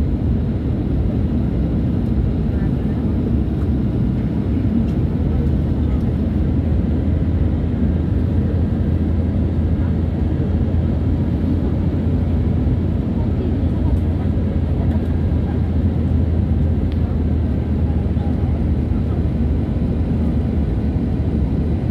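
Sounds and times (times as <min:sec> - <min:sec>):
jet engine cabin rumble: 0:00.0 - 0:21.9.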